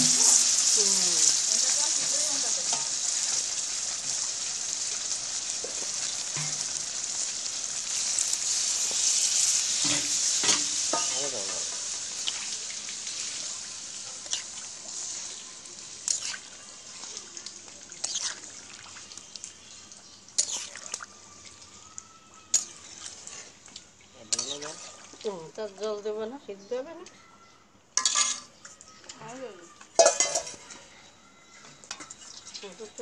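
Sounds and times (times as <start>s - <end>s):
curry sizzling in hot oil: 0.0s - 26.1s, 28.0s - 28.6s, 29.9s - 30.9s, 31.8s - 33.0s.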